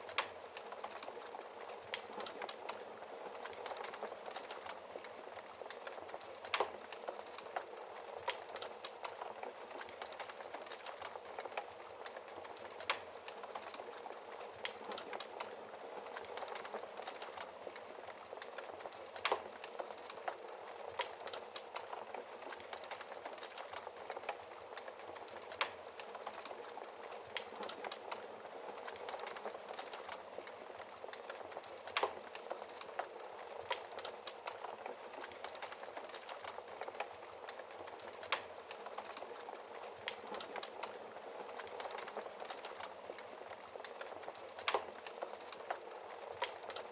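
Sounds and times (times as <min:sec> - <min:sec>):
fire crackling in fireplace: 0:00.0 - 0:46.9
fire popping: 0:00.0 - 0:46.9.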